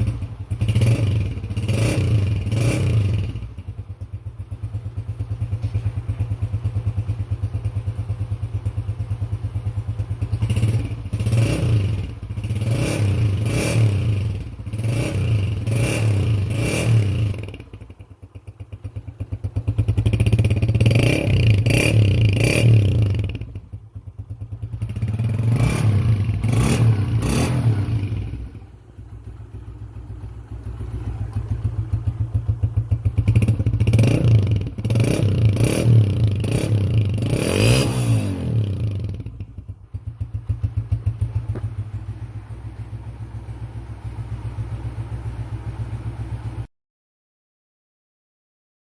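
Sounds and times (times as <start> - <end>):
motorcycle engine idling and revving: 0.0 - 46.7.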